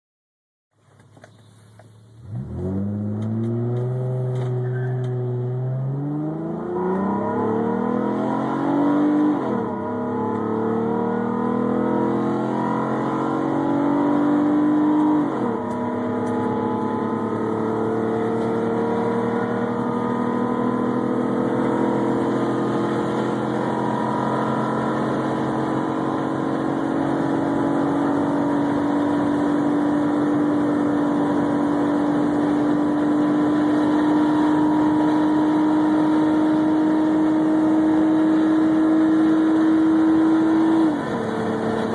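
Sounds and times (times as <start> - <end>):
car engine accelerating hard: 2.2 - 41.9.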